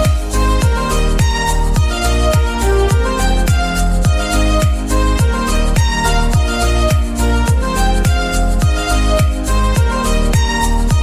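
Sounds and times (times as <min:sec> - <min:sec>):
background music with beat: 0:00.0 - 0:11.0
deep kick drum: 0:00.0 - 0:11.0.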